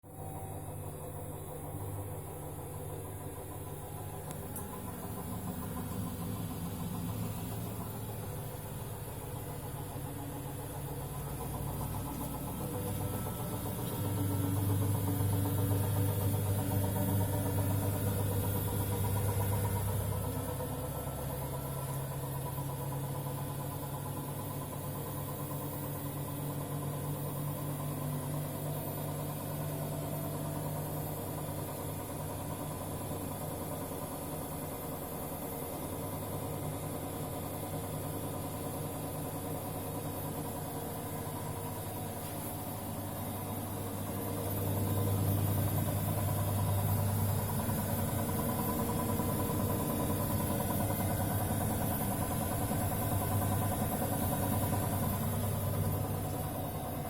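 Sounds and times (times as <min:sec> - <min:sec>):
washing machine drum hum: 0:00.0 - 0:57.0
washing machine knocking: 0:02.0 - 0:57.0.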